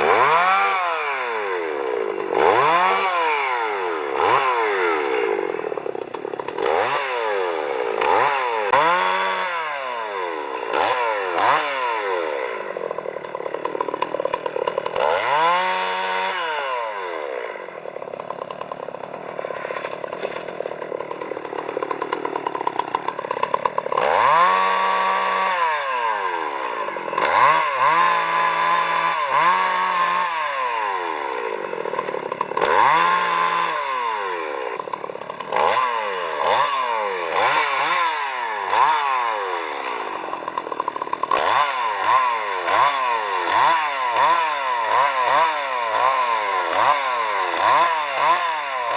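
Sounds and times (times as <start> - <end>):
chainsaw engine revving: 0.0 - 48.9.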